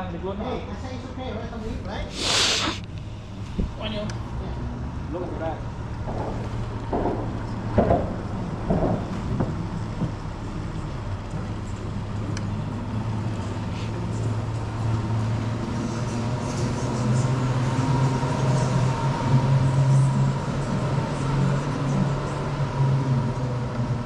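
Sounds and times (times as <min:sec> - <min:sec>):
boat motor humming: 0:04.6 - 0:24.0.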